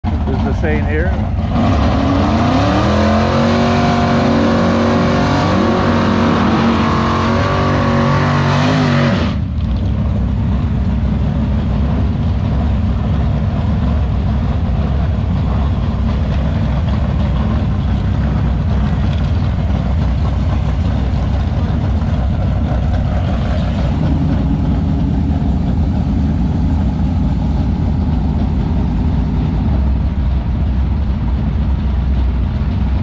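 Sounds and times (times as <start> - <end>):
car engine idling low rumble: 0.0 - 7.9, 9.2 - 33.0
car engine revving: 0.0 - 33.0.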